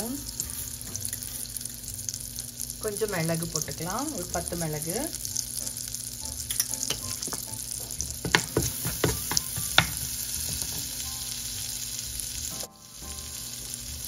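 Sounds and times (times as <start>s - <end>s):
butter sizzling in a pot: 0.0s - 14.0s.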